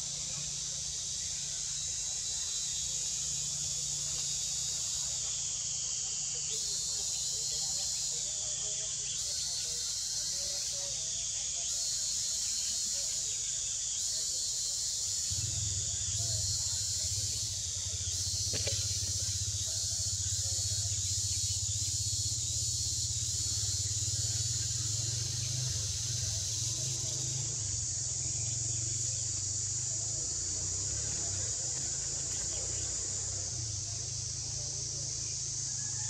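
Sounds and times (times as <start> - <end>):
insects buzzing: 0.0 - 36.0.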